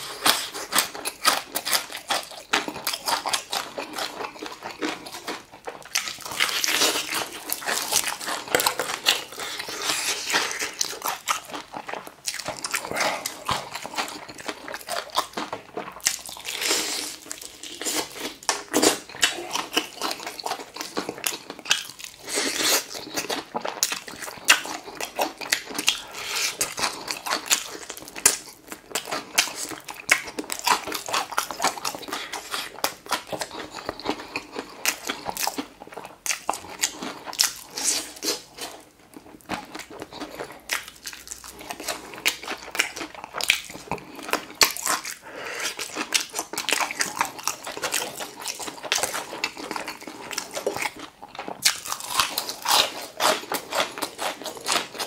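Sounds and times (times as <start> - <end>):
crunching fried chicken: 0.0 - 55.0.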